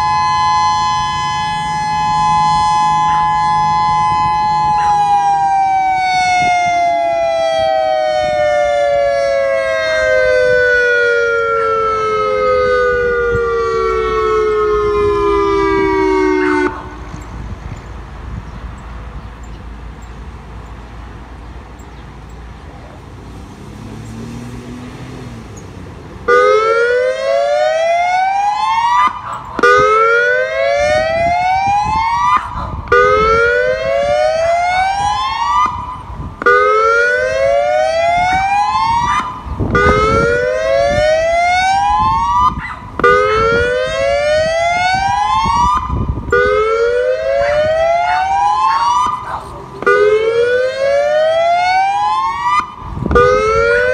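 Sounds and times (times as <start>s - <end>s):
electronic siren whooping: 0.0s - 17.5s, 26.2s - 53.9s.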